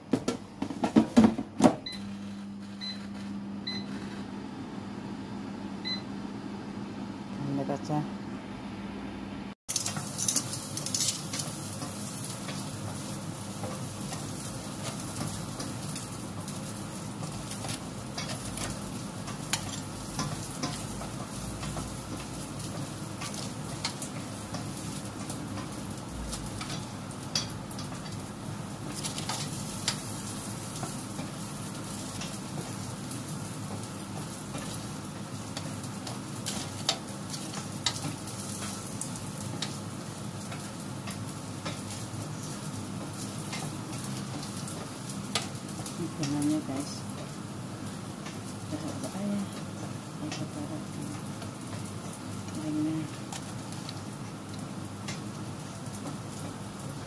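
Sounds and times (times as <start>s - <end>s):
food sizzling in an air fryer: 9.7s - 57.0s.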